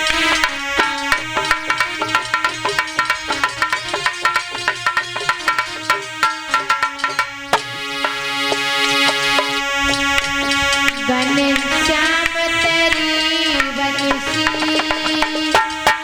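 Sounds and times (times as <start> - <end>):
held keyboard melody: 0.0 - 16.0
tabla-style hand drums: 0.0 - 16.0.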